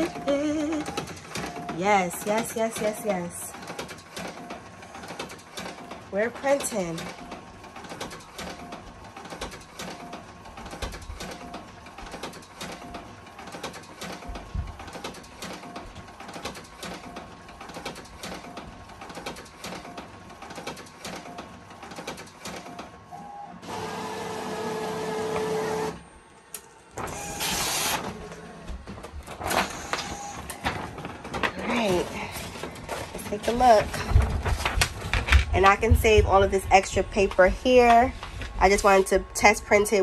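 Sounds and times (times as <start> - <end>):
printer mechanical run: 0.0 - 36.2
printer carriage clicking and whirring: 0.0 - 40.0.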